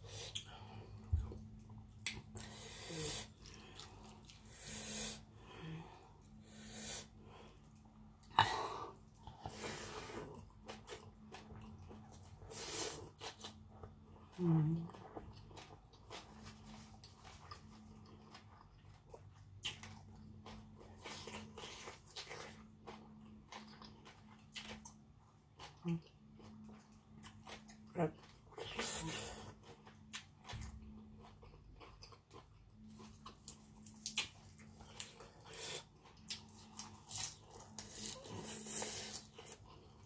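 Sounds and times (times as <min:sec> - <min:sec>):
person chewing food: 0:00.0 - 0:40.0.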